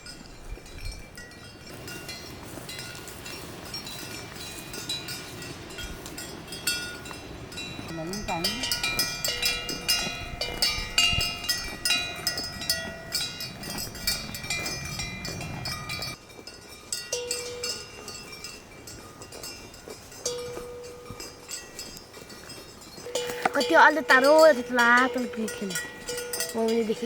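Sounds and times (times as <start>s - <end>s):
cowbells clanking: 0.0s - 27.0s.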